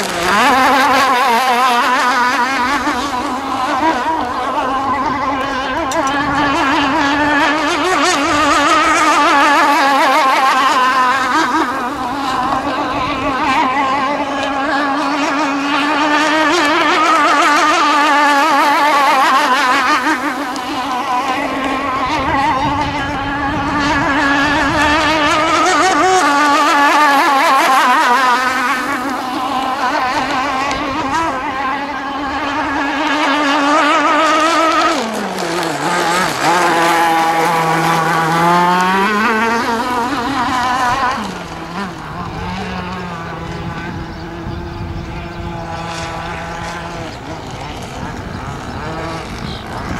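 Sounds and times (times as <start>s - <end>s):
racing boat engine: 0.0s - 49.9s.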